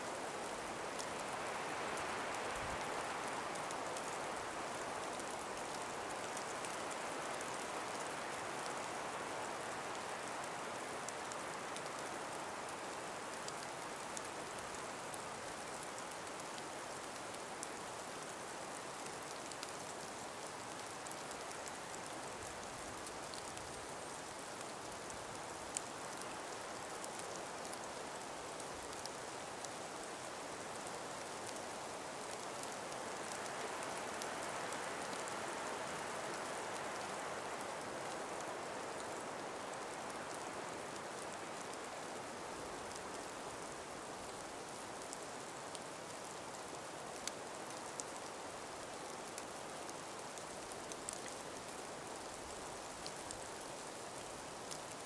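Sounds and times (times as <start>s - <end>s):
breeze hissing through forest: 0.0s - 55.0s
faint scattered ticks: 0.0s - 55.0s.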